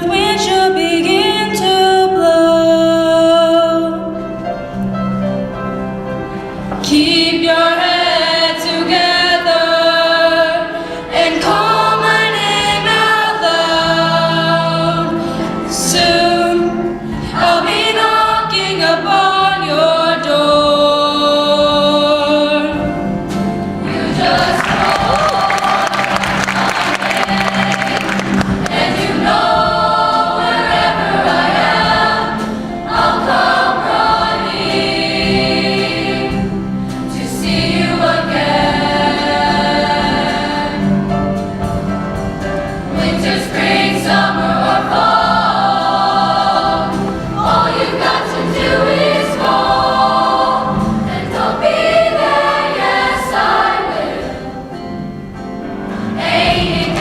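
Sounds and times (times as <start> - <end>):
choir singing in harmony: 0.0 - 4.7, 5.3 - 57.0
musical accompaniment: 0.0 - 57.0.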